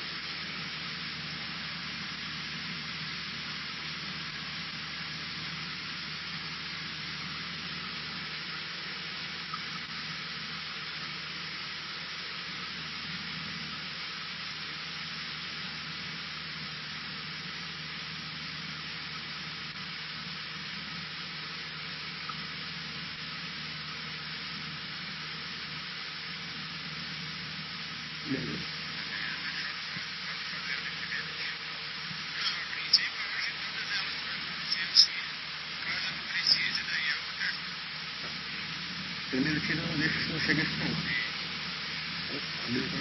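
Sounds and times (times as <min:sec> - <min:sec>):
aircraft engine and propeller drone: 0:00.0 - 0:43.0
cabin hiss: 0:00.0 - 0:43.0.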